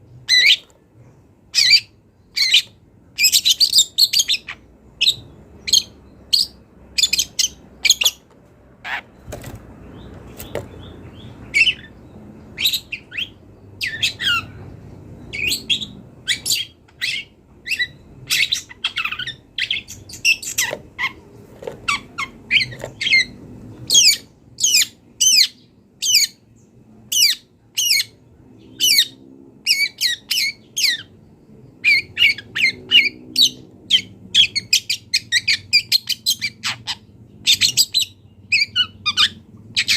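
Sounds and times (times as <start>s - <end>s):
shrike singing and chattering: 1.5s - 9.2s, 9.8s - 26.4s, 27.1s - 39.9s.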